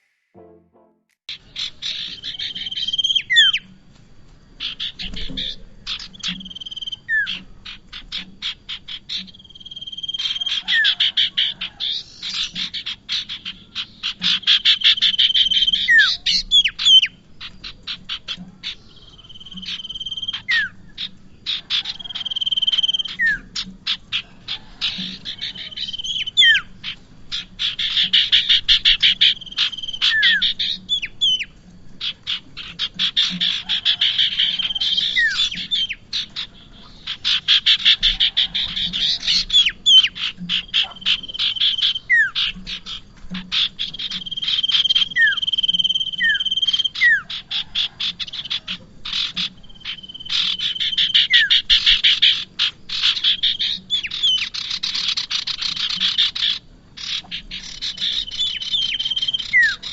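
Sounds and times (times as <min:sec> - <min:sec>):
bird chattering and whistling: 0:01.3 - 0:03.7, 0:04.6 - 0:59.9.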